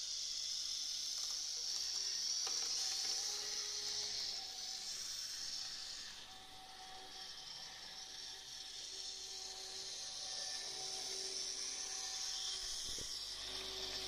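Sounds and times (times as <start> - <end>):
model train whirring: 0.0 - 14.0.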